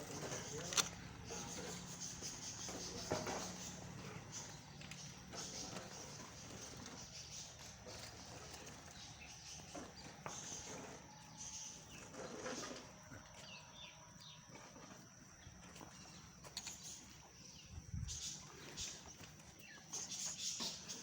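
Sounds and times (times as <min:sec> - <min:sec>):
bird calls: 0:00.0 - 0:21.0.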